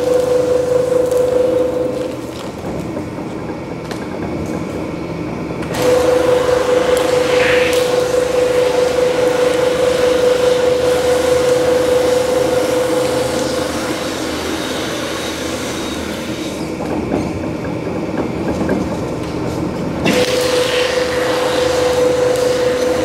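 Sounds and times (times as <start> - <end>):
machine hum: 0.0 - 23.0
rubber mill mechanical drone: 0.0 - 23.0.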